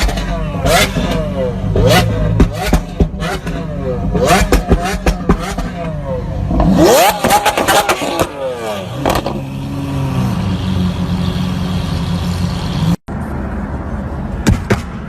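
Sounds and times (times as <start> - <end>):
car engine revving and idling: 0.0 - 13.3.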